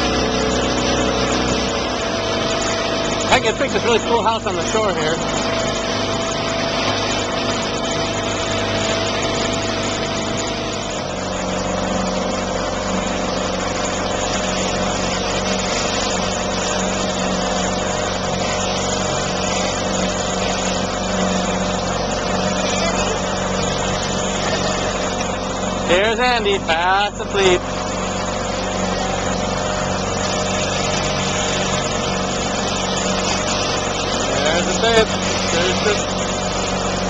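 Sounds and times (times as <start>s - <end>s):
motorboat engine humming: 0.0s - 37.0s
rushing water: 0.0s - 37.0s.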